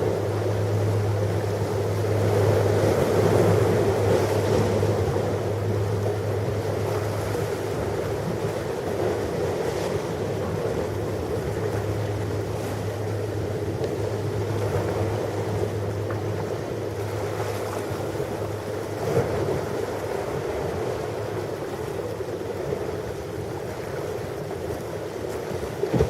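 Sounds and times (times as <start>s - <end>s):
ocean waves washing: 0.0s - 26.0s.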